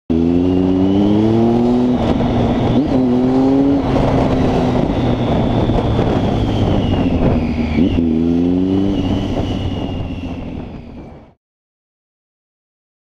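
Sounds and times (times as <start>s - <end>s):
motorcycle engine revving: 0.1s - 11.3s.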